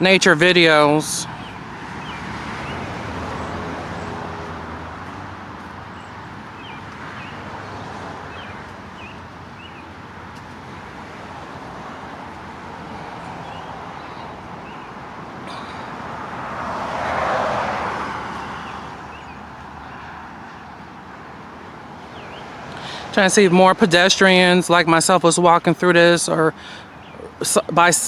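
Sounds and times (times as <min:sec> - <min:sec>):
highway traffic noise: 0:00.0 - 0:28.0
vehicle passing: 0:00.0 - 0:28.0.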